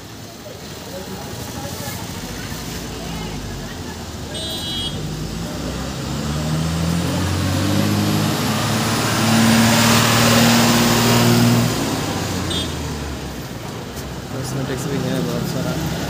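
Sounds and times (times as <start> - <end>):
vehicle engine passing: 0.7 - 16.0.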